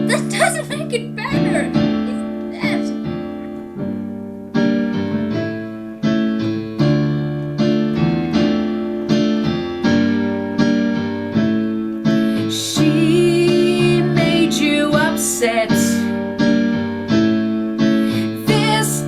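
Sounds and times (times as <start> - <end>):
electric piano chords: 0.0 - 19.0.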